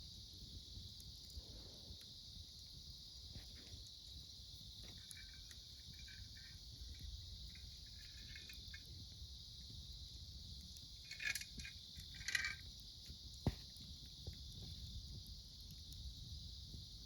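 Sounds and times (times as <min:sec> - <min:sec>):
campfire crackling: 0:00.0 - 0:17.0
insects chirping chorus: 0:00.0 - 0:17.0
lower trilling insect call: 0:00.0 - 0:17.0.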